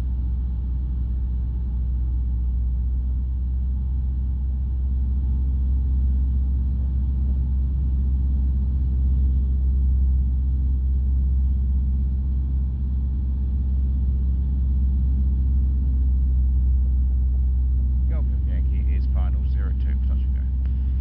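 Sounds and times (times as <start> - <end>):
light aircraft engine droning: 0.0 - 21.0.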